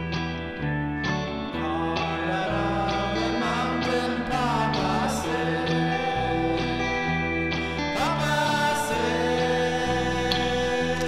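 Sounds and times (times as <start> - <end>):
bass line: 0.0 - 11.0
guitar: 0.0 - 11.0
person singing: 1.4 - 11.0.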